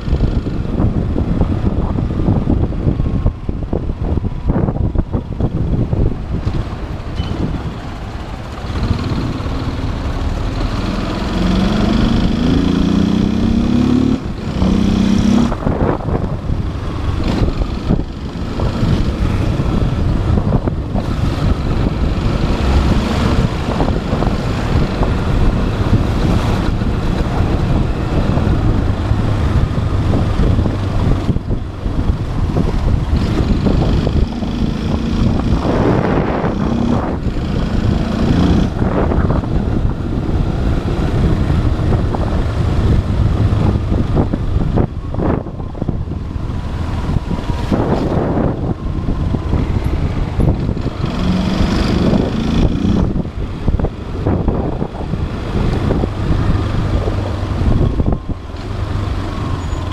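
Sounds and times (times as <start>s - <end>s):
wind rushing over microphone: 0.0s - 59.9s
motorcycle engine revving: 7.7s - 59.9s.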